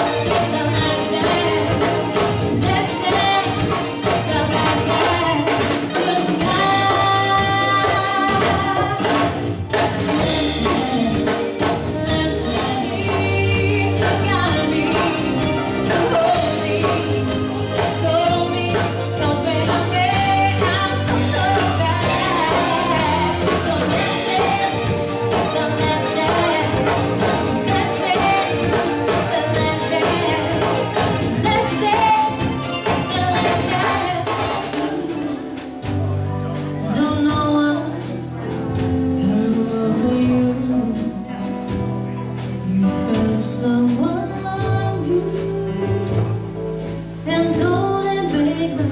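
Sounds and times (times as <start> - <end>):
person singing: 0.0 - 46.6
steady drum beat: 0.0 - 47.6
live dance band playing: 0.0 - 48.9.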